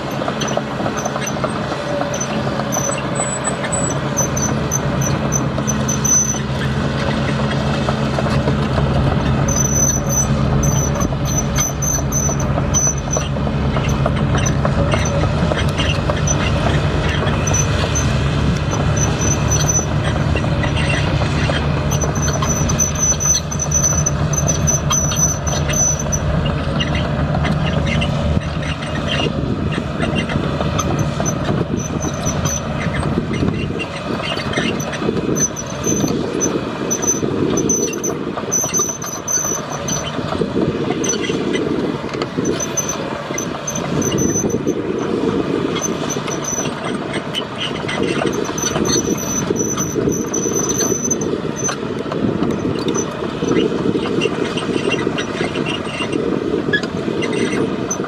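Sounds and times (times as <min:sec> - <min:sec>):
high-pitched metallic squeals: 0:00.0 - 0:51.9, 0:52.5 - 0:58.0
heavy machinery engine rumble: 0:00.0 - 0:58.0.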